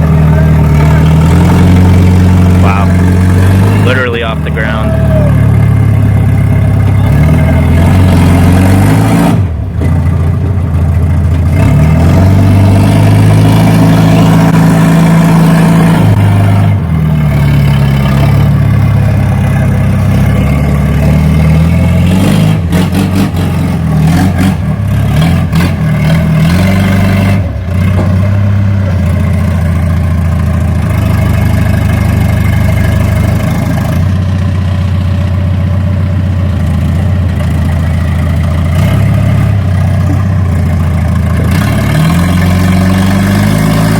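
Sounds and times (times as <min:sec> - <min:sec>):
forklift engine revving: 0:00.0 - 0:43.9.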